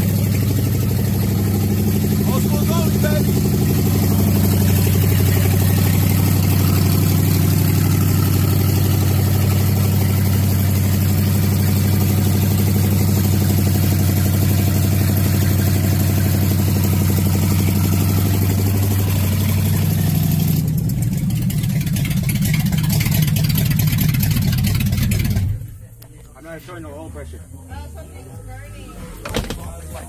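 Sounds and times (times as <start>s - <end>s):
car engine idling: 0.0s - 27.8s.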